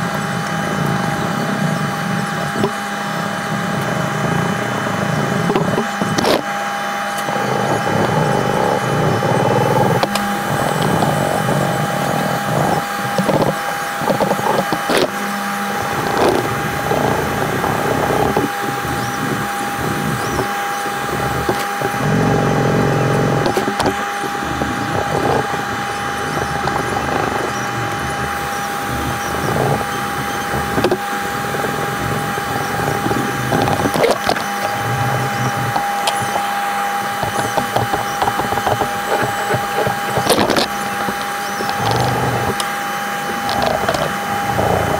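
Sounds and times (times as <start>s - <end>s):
steady hum: 0.0s - 44.9s
hand sanding scraping: 5.3s - 44.9s.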